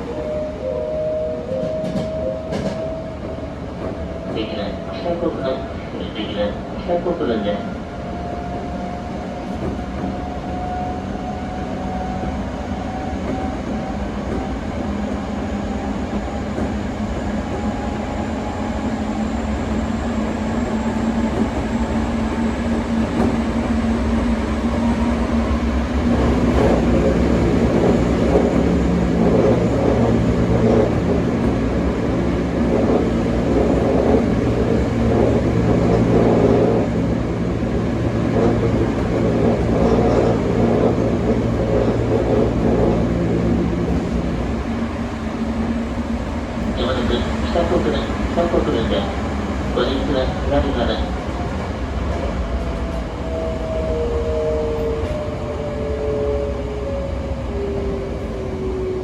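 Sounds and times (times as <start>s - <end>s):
train running: 0.0s - 59.0s.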